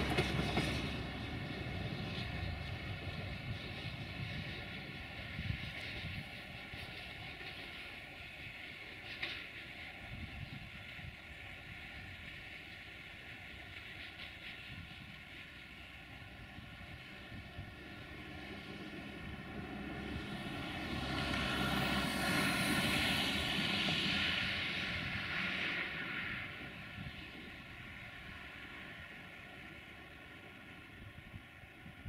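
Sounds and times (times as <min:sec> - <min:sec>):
distant engine drone: 0:00.0 - 0:32.0.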